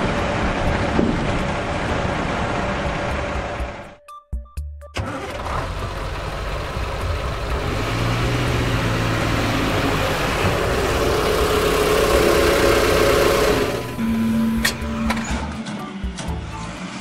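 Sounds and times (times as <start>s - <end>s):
vehicle engine running: 0.0s - 4.0s, 5.0s - 16.8s.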